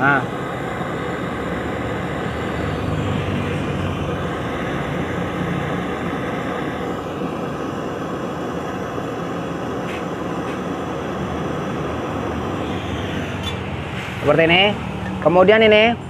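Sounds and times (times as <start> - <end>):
gas torch flame hissing: 0.0 - 15.4.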